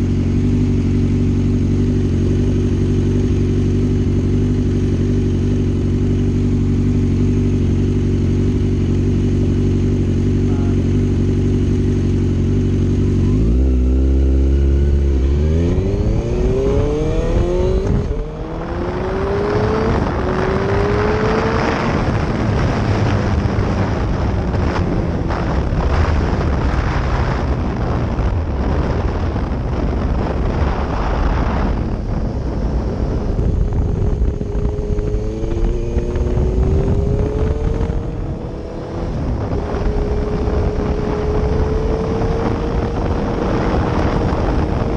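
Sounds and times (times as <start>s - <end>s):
motorcycle engine accelerating: 0.0s - 44.9s
wind rushing over microphone: 0.0s - 44.9s.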